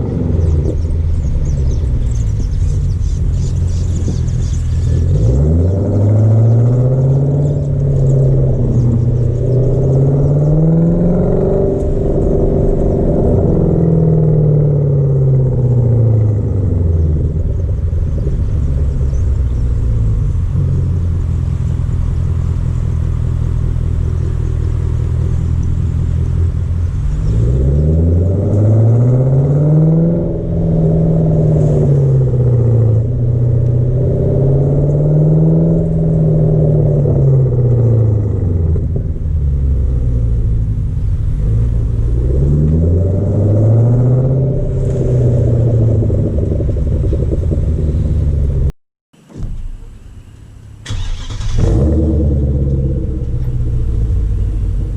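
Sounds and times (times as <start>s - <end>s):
car engine revving: 0.0s - 48.7s, 49.3s - 54.9s.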